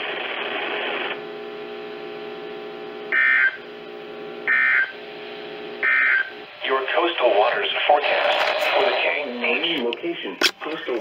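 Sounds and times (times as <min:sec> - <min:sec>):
radio static: 0:00.0 - 0:11.0
steady hum: 0:00.0 - 0:11.0.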